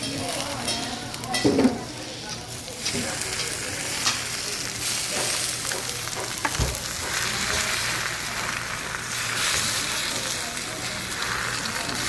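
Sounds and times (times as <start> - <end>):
batter sizzling on a griddle: 0.0 - 12.0.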